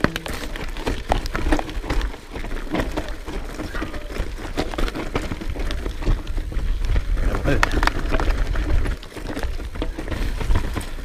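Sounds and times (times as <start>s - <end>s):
bike clicks knocks and rattles: 0.0s - 11.0s.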